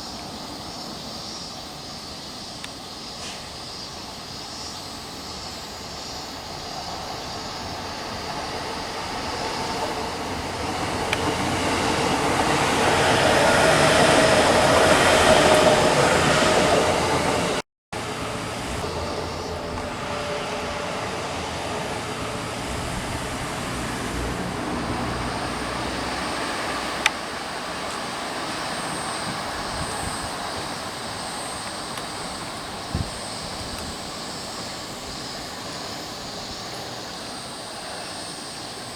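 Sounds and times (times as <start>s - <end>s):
electric train running past: 0.0s - 38.9s.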